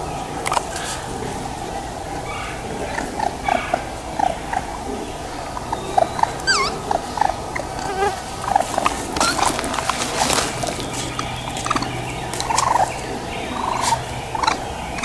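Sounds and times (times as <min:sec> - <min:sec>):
baby raccoons purring: 0:00.0 - 0:15.0.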